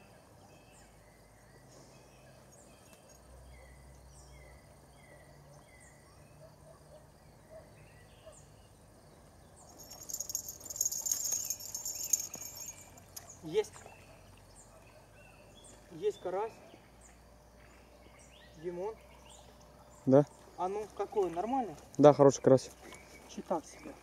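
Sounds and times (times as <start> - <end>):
faint insects: 0.0 - 24.0.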